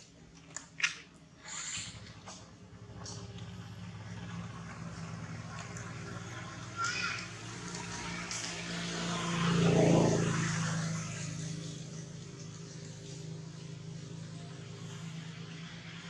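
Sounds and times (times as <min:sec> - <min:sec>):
vehicle engine passing by: 0:01.4 - 0:16.0.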